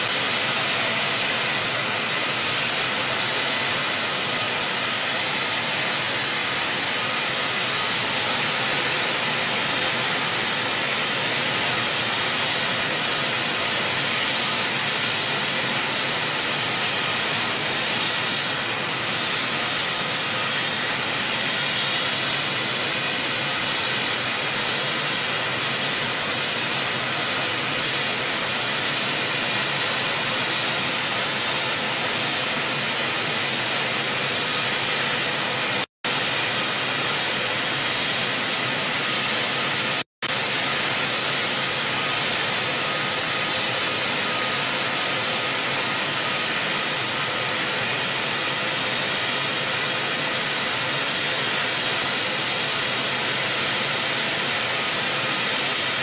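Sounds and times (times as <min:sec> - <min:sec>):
jet aircraft rush: 0:00.0 - 0:56.0.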